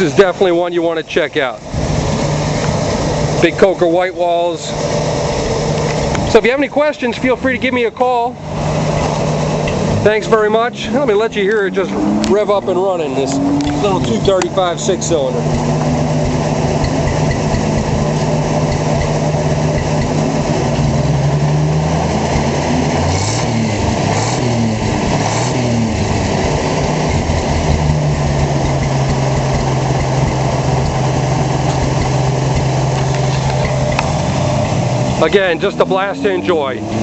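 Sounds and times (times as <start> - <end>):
truck engine idling and revving: 0.0 - 37.0.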